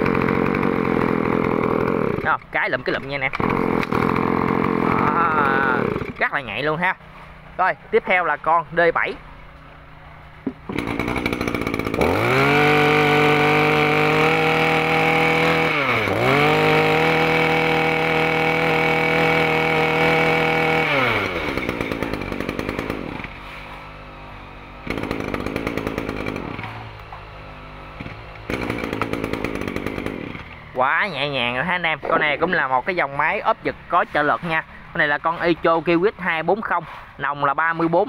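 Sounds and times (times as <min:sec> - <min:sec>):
brush cutter engine revving: 0:00.0 - 0:07.4, 0:10.6 - 0:38.0.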